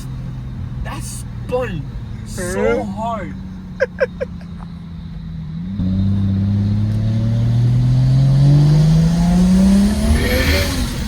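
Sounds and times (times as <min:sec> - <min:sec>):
car engine accelerating hard: 0:01.4 - 0:11.0.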